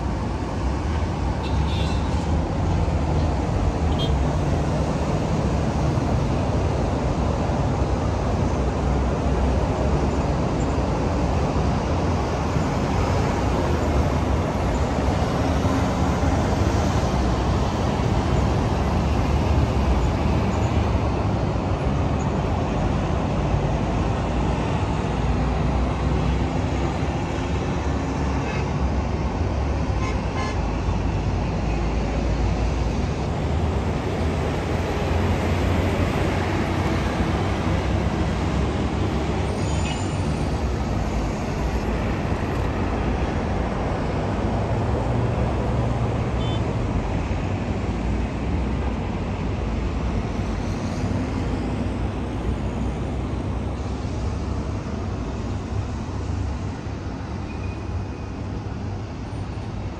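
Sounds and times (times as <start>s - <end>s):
city traffic rumble: 0.0s - 59.9s.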